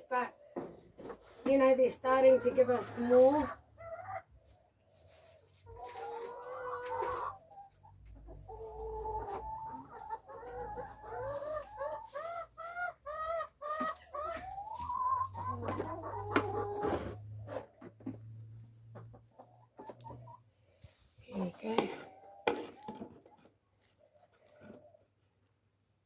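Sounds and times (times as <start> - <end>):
chickens clucking and calling: 0.0 - 25.6.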